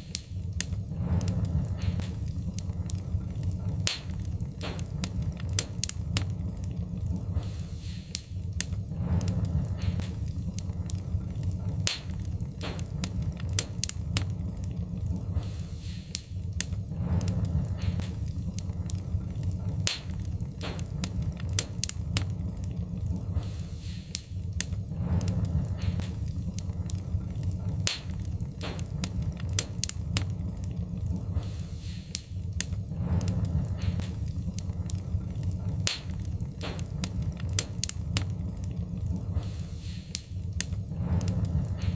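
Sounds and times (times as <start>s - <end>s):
low fire rumble: 0.0s - 41.9s
wood fire crackling: 0.0s - 41.9s.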